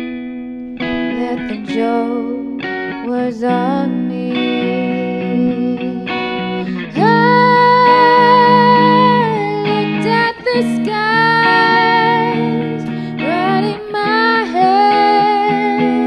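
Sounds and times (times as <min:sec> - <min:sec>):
electric guitar chords: 0:00.0 - 0:16.0.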